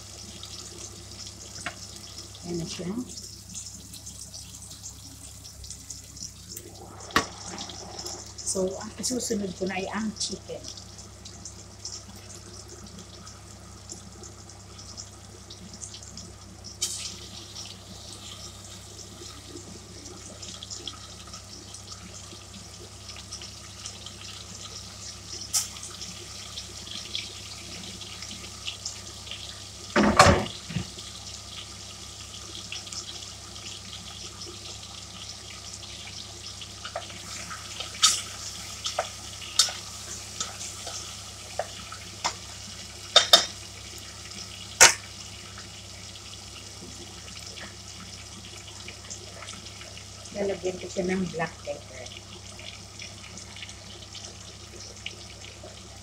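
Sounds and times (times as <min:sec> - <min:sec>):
ginger and garlic sizzling in oil: 0:00.0 - 0:56.0.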